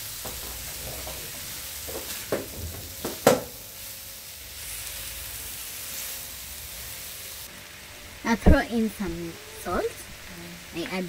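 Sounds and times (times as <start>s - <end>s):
mushrooms sizzling in a wok: 0.0s - 11.0s.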